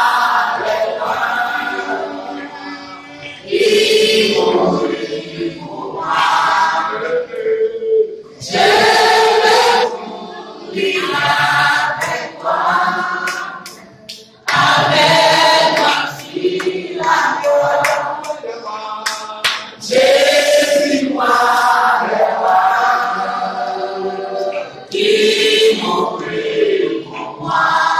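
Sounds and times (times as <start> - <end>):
choir singing a hymn unaccompanied: 0.0 - 27.9.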